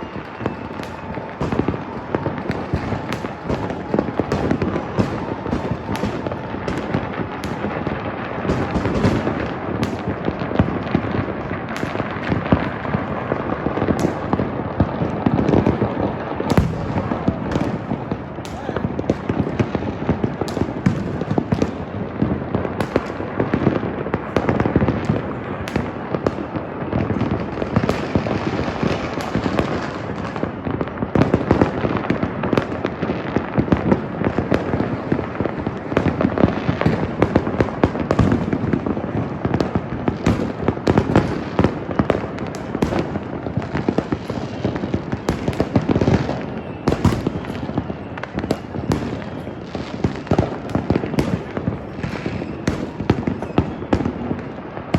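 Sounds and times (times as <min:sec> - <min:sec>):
fireworks and firecrackers banging: 0:00.0 - 0:54.9.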